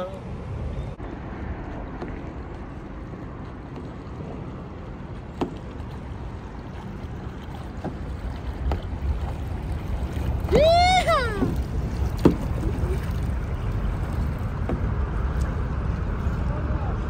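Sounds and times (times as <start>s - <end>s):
water rushing: 0.0s - 17.0s
paddle splashes: 1.0s - 17.0s.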